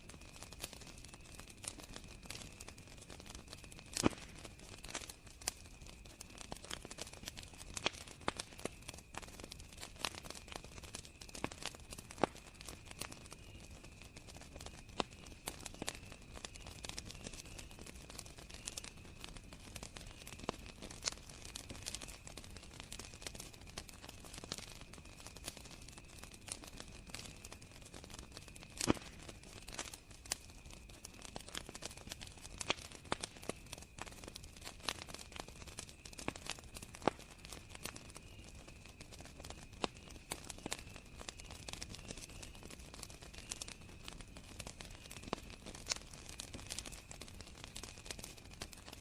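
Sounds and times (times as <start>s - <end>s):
crickets trilling: 0.0s - 49.0s
wood fire crackling and popping: 0.0s - 49.0s.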